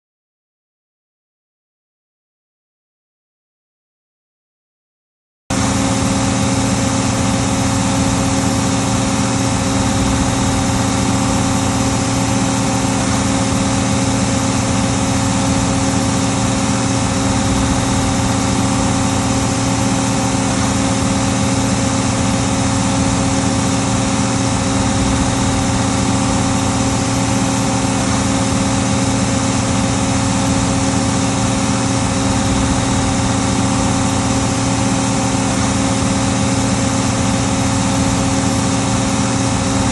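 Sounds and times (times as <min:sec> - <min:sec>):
tractor diesel engine running: 0:05.6 - 0:39.9.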